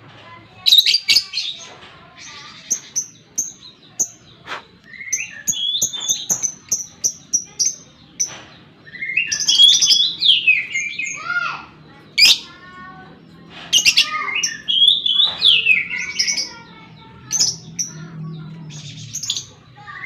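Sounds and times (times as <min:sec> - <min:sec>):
bird chirping and squeaking: 0:00.6 - 0:11.3, 0:11.9 - 0:20.0.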